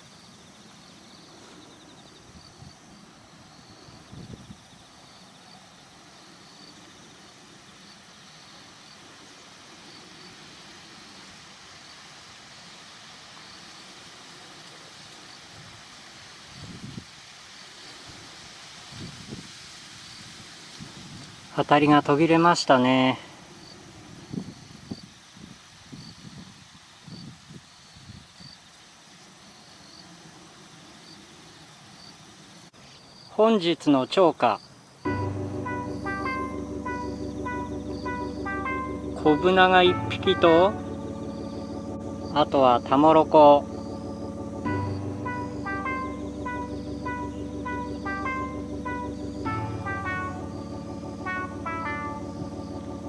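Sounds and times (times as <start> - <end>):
faint insect chirps: 0.0 - 53.0.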